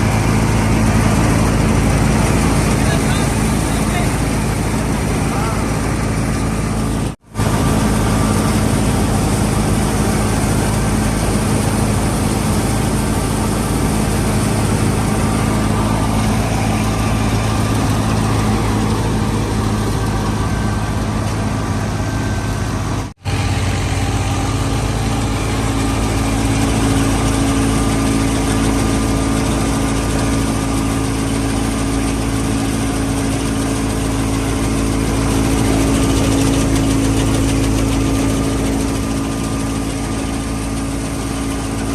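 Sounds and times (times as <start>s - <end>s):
thresher mechanical din: 0.0s - 41.9s
tractor engine running: 0.0s - 41.9s.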